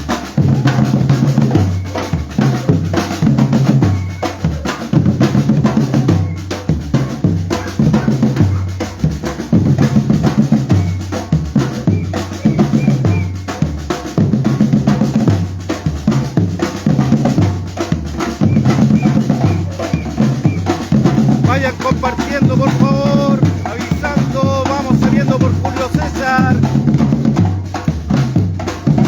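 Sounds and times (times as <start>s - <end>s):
bass drums and snares: 0.0s - 29.0s.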